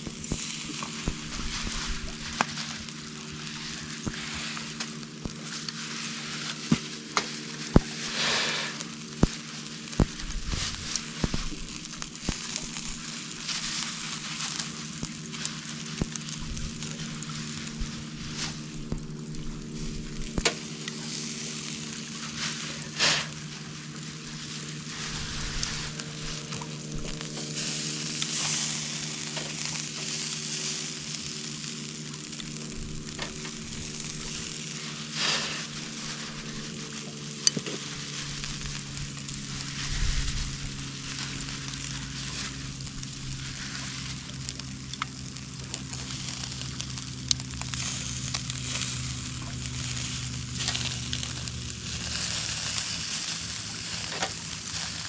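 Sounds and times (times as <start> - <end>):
chicken sizzling on grill: 0.0 - 55.0
pops and crackles: 0.0 - 55.0
steady low hum: 0.0 - 55.0.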